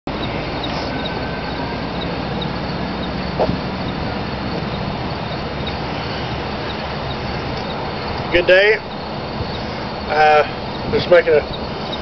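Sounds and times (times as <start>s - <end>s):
outdoor background rush: 0.0s - 12.0s.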